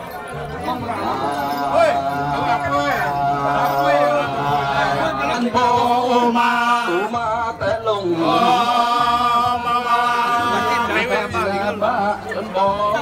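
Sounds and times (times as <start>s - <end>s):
voices chanting long notes: 0.0s - 13.0s.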